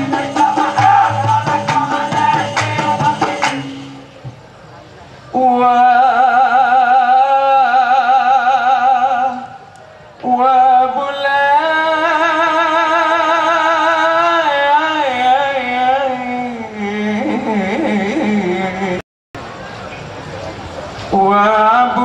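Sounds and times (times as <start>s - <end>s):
man singing with vibrato: 0.0s - 4.3s, 5.3s - 19.0s, 21.1s - 22.0s.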